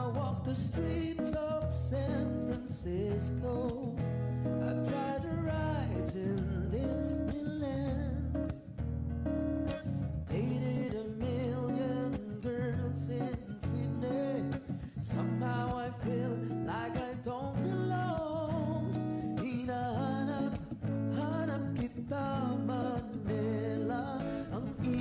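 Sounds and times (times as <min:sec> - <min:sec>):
person singing: 0:00.0 - 0:08.6, 0:10.3 - 0:25.0
bass line: 0:00.0 - 0:11.9, 0:12.5 - 0:25.0
guitar: 0:00.0 - 0:25.0.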